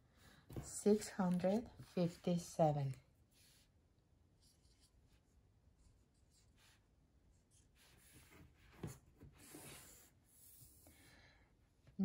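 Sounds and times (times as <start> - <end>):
marker strokes on paper: 0.6 - 10.8.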